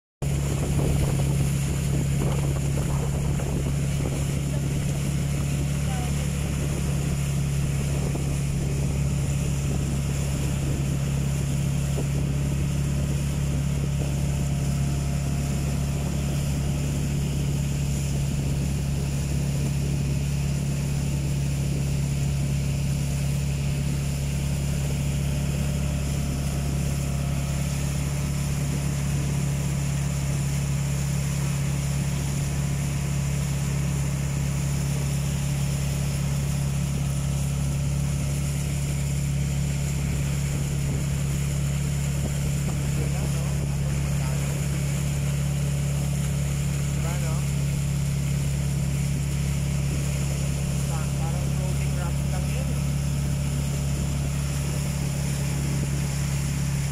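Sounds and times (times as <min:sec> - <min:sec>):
motorboat engine droning: 0:00.2 - 0:56.9
water wash: 0:00.2 - 0:56.9
wind: 0:00.2 - 0:56.9.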